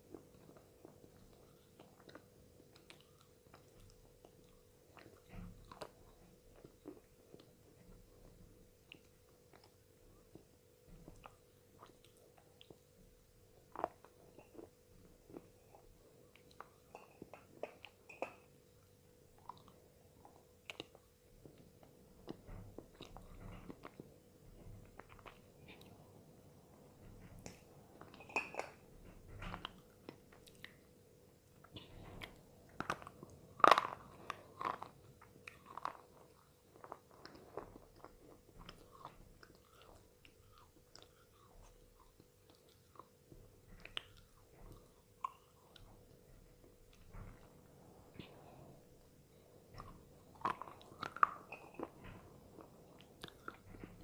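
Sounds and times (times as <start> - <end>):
soft chewing crackles: 0.0 - 54.0.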